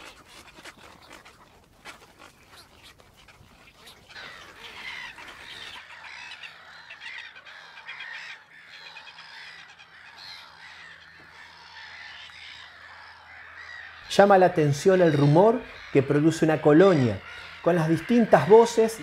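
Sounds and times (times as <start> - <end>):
marsh birds calling: 0.0 - 19.0.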